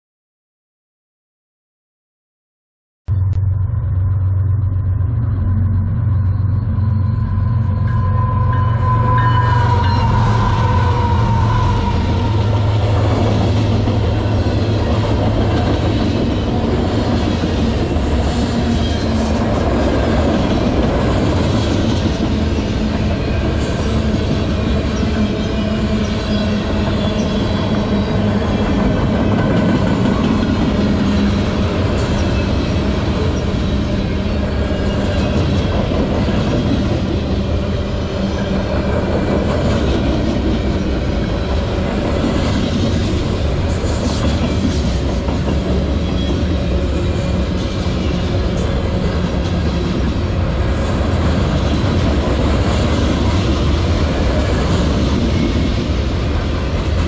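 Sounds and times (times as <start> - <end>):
locomotive engines droning: 3.1 - 57.0
freight cars rumbling on rail: 3.4 - 57.0.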